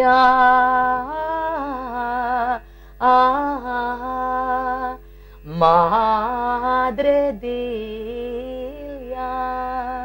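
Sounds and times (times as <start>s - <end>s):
faint steady drone: 0.0s - 10.0s
woman singing unaccompanied: 0.0s - 10.0s.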